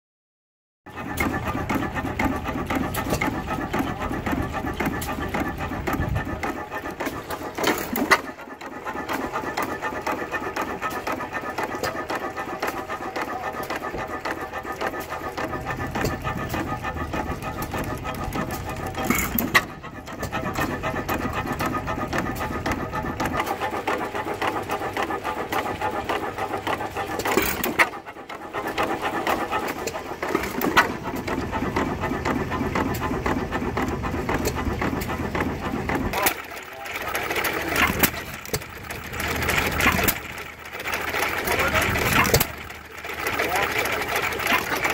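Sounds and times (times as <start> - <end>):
stationary engine ticking and puffing: 0.8 - 44.9.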